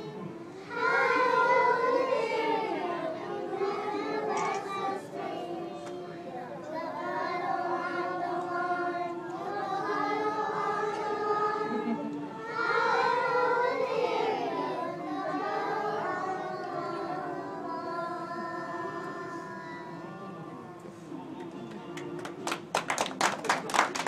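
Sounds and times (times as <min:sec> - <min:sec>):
young children singing in unison: 0:00.0 - 0:20.2.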